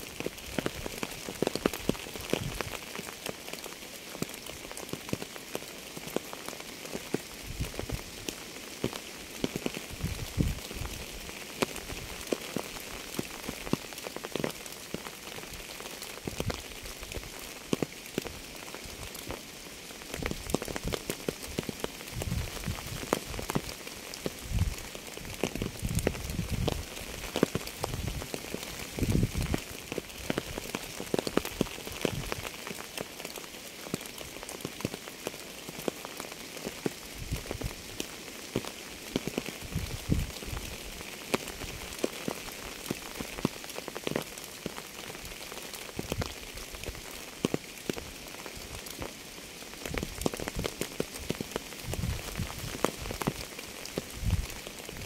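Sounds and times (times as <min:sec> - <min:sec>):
steady rain: 0:00.0 - 0:55.0
heavy raindrop impacts: 0:06.0 - 0:55.0.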